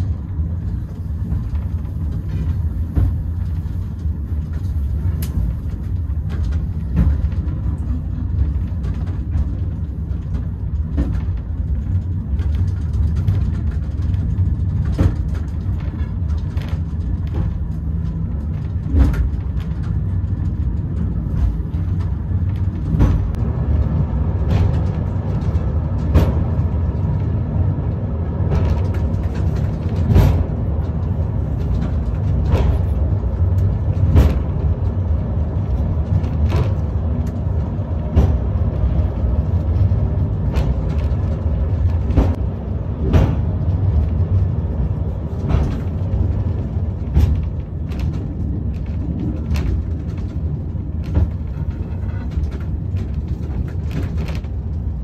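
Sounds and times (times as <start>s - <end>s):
funicular car rumbling on track: 0.0s - 55.0s.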